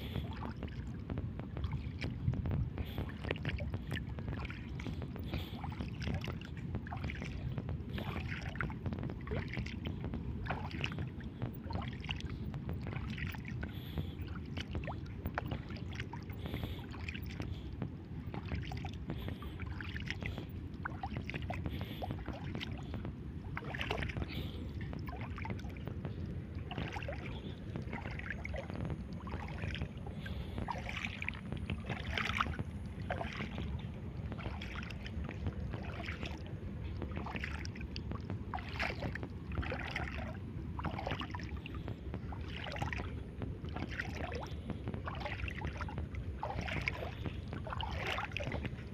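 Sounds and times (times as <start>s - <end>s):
low rumble: 0.0s - 48.9s
seawater sloshing and splashing: 0.0s - 48.9s.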